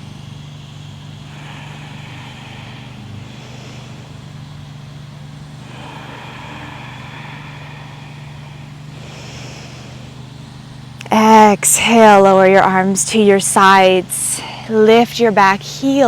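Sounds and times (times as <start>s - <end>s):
distant road traffic hum: 0.0s - 16.0s.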